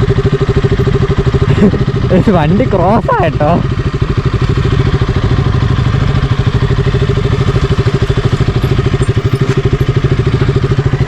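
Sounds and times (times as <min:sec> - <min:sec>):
motorcycle engine puttering: 0:00.0 - 0:11.0.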